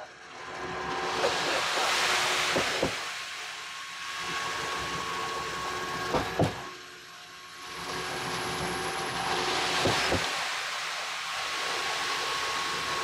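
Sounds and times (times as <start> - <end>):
concrete pump machinery running: 0.0 - 13.0
wet concrete pouring down chute: 0.9 - 6.4, 7.7 - 13.0.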